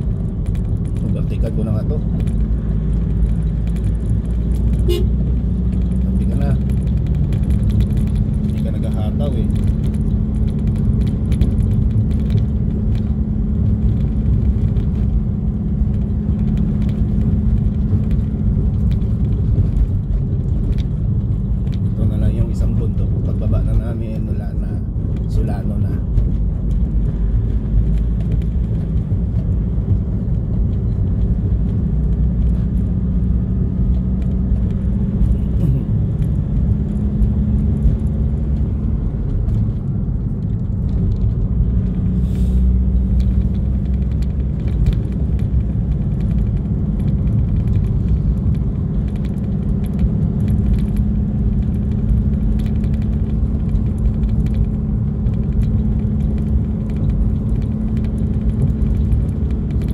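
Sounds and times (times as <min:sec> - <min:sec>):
road rumble: 0:00.0 - 0:59.9
vehicle engine hum: 0:00.0 - 0:59.9
light rattles: 0:00.1 - 0:59.9.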